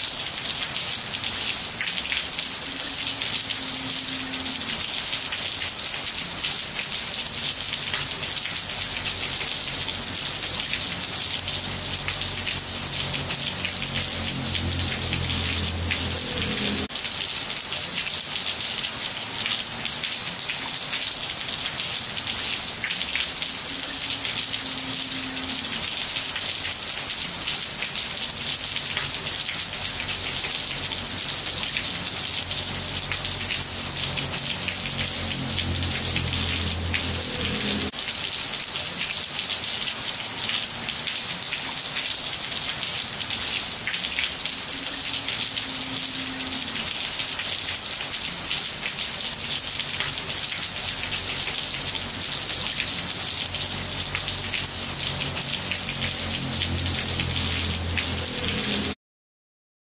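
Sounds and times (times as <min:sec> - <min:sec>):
rain on tiled floor: 0:00.0 - 0:59.0.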